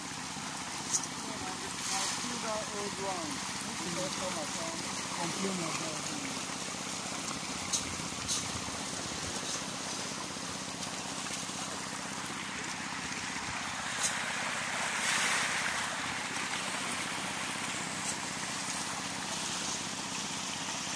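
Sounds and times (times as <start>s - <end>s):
fish splashing at water surface: 0.0s - 20.9s.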